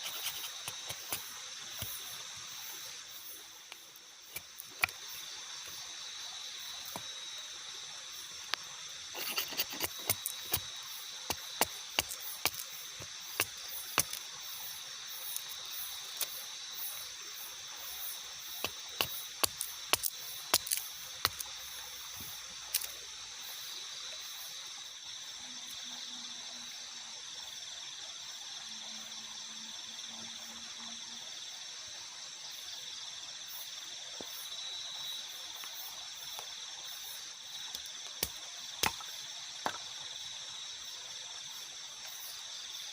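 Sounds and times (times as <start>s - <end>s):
night insects buzzing: 0.0s - 42.9s.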